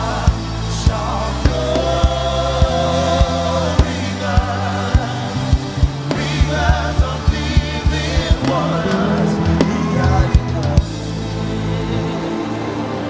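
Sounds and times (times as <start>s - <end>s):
low bass: 0.0s - 13.0s
voices singing gospel: 0.0s - 13.0s.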